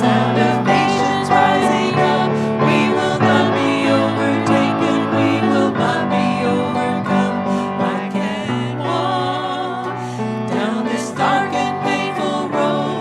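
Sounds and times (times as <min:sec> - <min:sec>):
keyboard backing: 0:00.0 - 0:13.0
voices singing worship song: 0:00.0 - 0:13.0.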